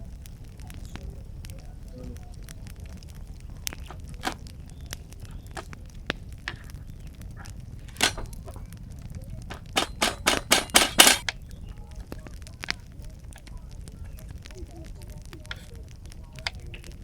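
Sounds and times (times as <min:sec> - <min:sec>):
burning wood popping: 0:00.0 - 0:17.0
campfire crackling: 0:00.0 - 0:17.0.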